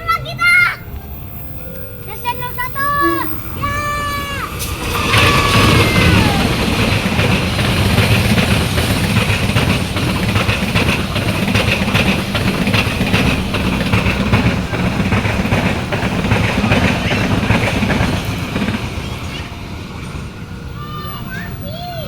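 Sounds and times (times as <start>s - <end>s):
train rumble: 0.0s - 22.0s
wheels clattering over rail joints: 0.0s - 22.0s.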